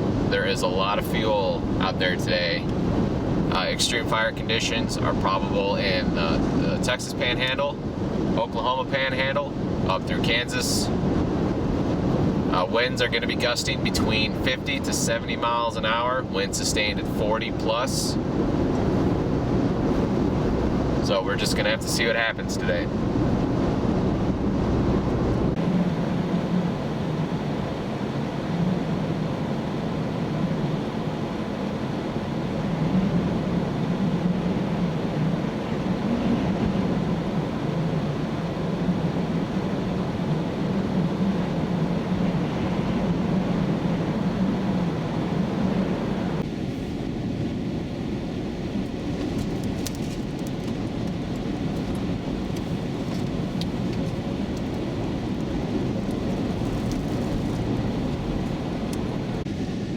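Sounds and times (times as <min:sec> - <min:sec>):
road and engine noise in vehicle: 0:00.0 - 0:59.9.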